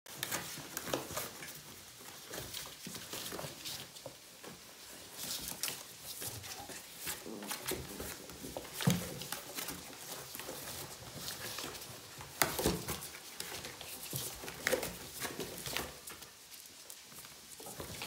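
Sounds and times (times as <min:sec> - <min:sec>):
puppy scrabbling in cardboard box: 0:00.1 - 0:18.0.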